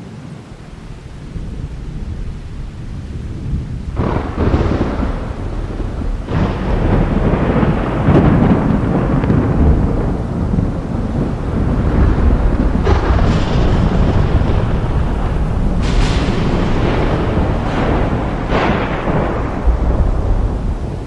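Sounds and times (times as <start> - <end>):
thunder rumbling and cracking: 0.0 - 21.0.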